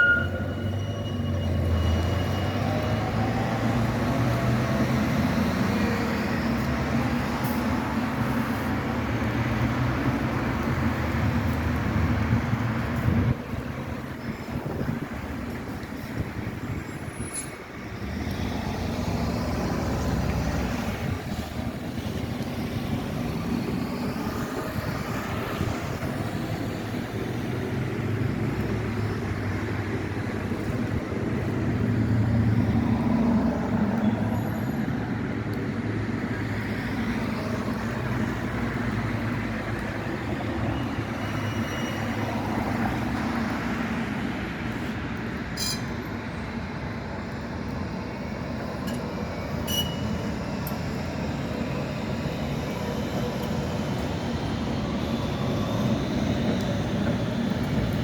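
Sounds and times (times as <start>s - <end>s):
tram rumbling: 0.0s - 58.0s.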